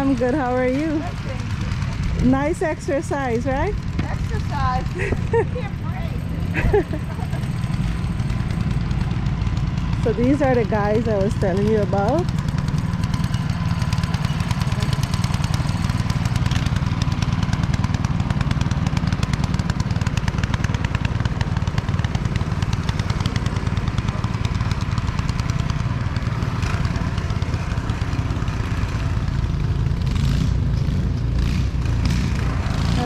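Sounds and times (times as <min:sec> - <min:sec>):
snowblower engine running: 0:00.0 - 0:33.0.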